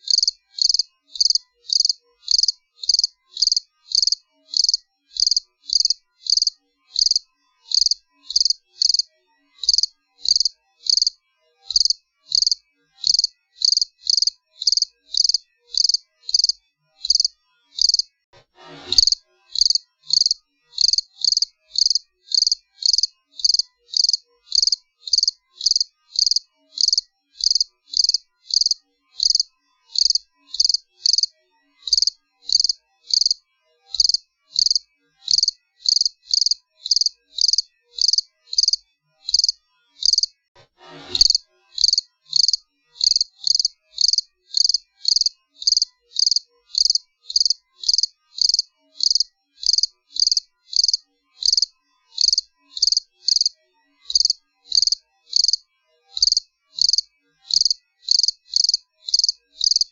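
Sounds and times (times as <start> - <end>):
cricket chirping: 0.0 - 18.1, 19.0 - 31.3, 31.9 - 33.4, 34.0 - 40.3, 41.2 - 53.5, 54.1 - 55.6, 56.2 - 59.9.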